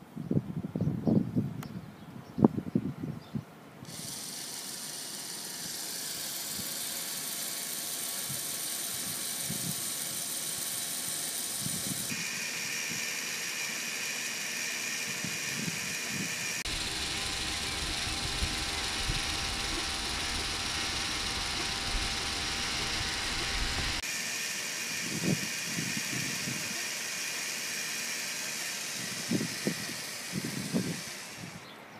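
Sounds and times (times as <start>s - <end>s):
servo motors whirring: 3.8s - 31.8s.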